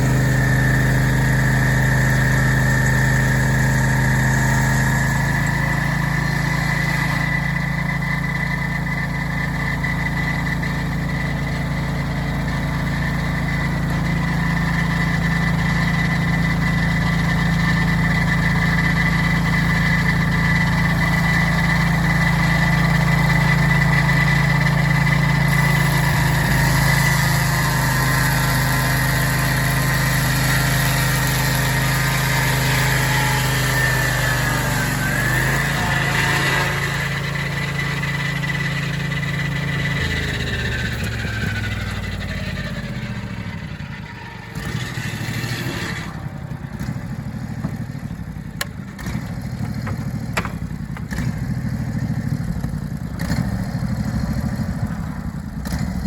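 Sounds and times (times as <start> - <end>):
saw blade high whine: 0.0 - 52.0
sawmill engine running under load: 0.0 - 56.0.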